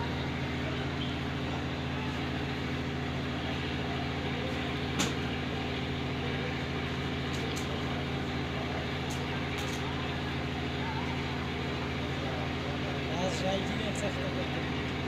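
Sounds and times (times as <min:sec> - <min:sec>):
low motor-like hum: 0:00.0 - 0:15.0.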